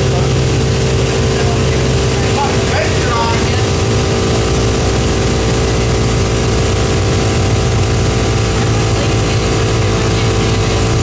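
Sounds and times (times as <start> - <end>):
engine running on a dyno: 0.0 - 11.0.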